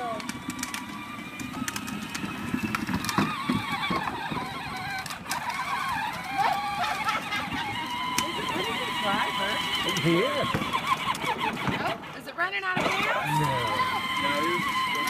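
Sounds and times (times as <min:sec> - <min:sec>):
electric toy vehicle whine: 0:00.0 - 0:15.0.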